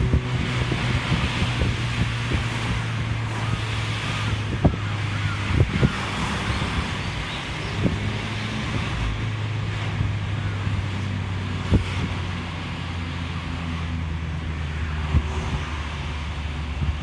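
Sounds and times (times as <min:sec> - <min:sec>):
car engine while driving: 0:00.0 - 0:17.0
wind and road noise: 0:00.0 - 0:17.0.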